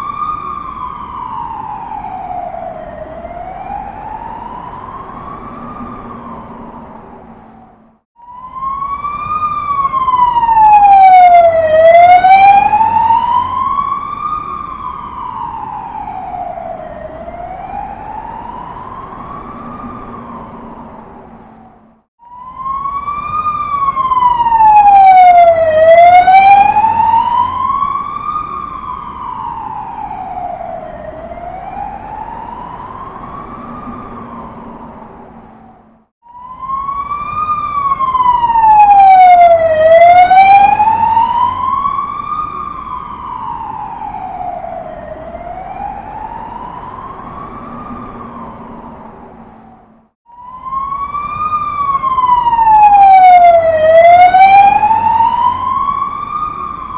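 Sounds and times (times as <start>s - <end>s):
emergency vehicle siren wailing: 0.0s - 56.9s
low traffic noise: 0.0s - 56.9s.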